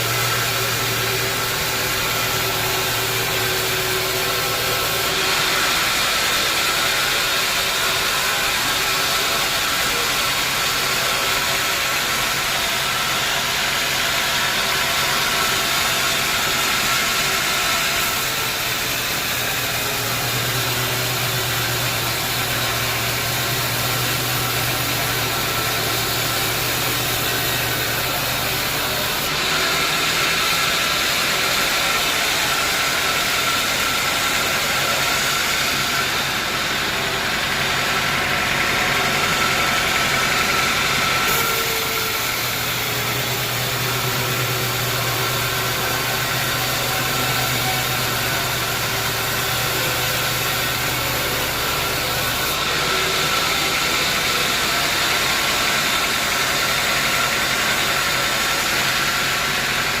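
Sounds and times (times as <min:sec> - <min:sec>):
bandsaw machinery humming and hissing: 0:00.0 - 1:00.0.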